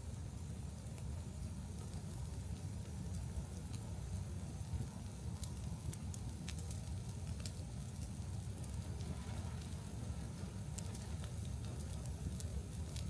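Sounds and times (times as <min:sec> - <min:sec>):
fire crackles and pops: 0:00.0 - 0:13.0
fire rumbling: 0:00.0 - 0:13.0.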